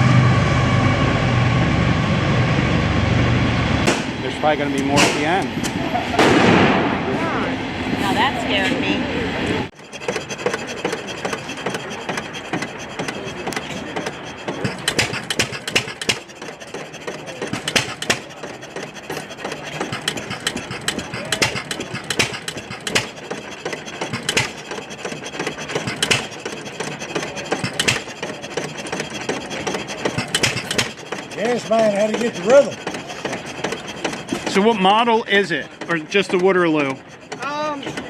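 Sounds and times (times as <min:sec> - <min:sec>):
gas engine clattering and firing: 0:03.8 - 0:07.1, 0:09.7 - 0:38.0.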